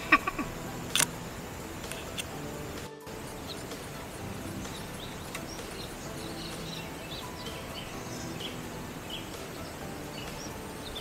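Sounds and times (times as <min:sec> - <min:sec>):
outdoor background noise: 0:00.0 - 0:11.0
small birds chirping: 0:01.3 - 0:11.0.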